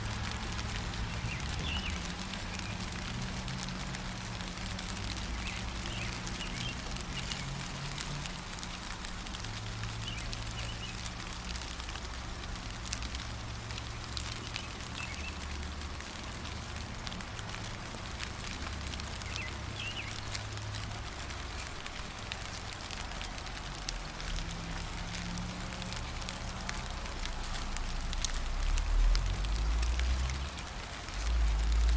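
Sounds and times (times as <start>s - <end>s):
rain patter: 0.0s - 31.9s.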